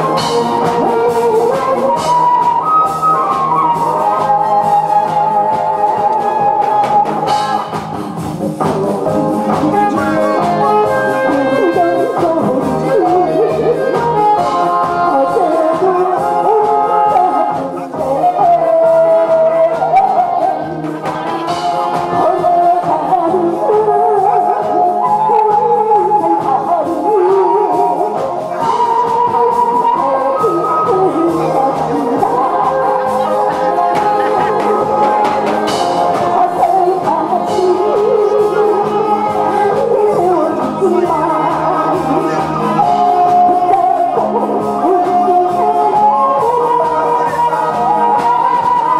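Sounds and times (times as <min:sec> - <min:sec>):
woman singing into a microphone: 0:00.0 - 0:07.8, 0:08.4 - 0:48.9
backing music with steady beat: 0:00.0 - 0:48.9.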